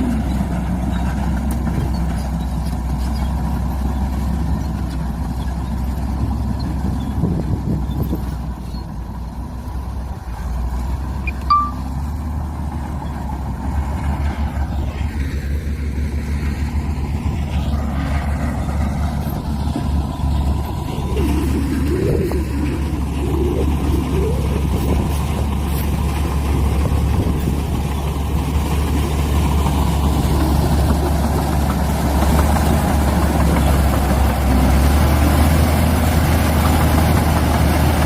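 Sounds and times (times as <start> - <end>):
heavy diesel machinery rumbling: 0.0 - 38.0.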